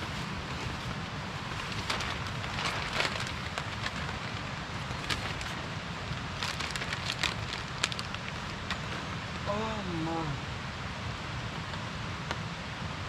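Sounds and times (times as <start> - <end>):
steady rain in a forest: 0.0 - 13.0.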